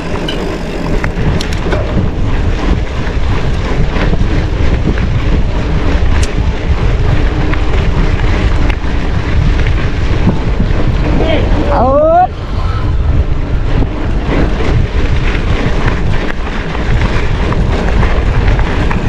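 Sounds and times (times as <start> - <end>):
bike tyres on ground: 0.0 - 19.0
wind over microphone: 0.0 - 19.0.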